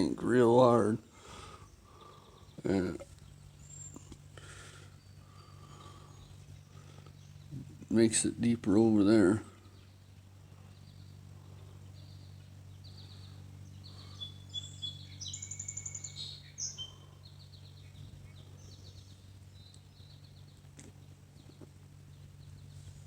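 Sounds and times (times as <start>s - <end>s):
songbirds singing and chirping: 0.0s - 23.0s
steady low hum: 0.0s - 23.0s.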